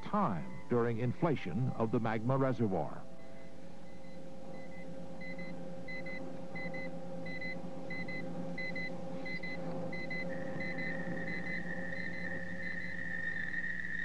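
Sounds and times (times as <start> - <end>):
low electronic drone: 0.0 - 14.0
steady high tone: 0.0 - 14.0.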